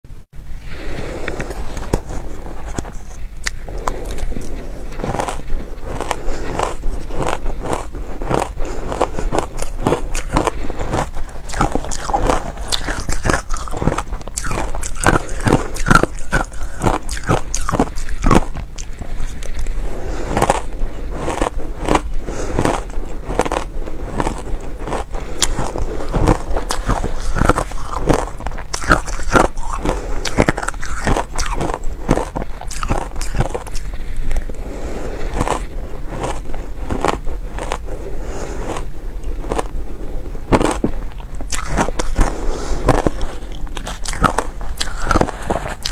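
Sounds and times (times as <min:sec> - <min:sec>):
shaved ice being chewed: 0:01.2 - 0:45.9.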